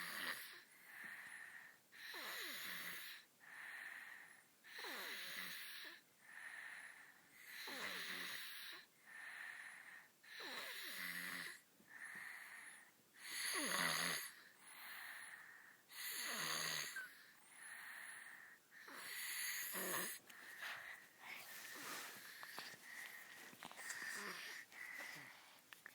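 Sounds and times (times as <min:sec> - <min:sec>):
toddlers snoring softly: 0:00.0 - 0:25.9.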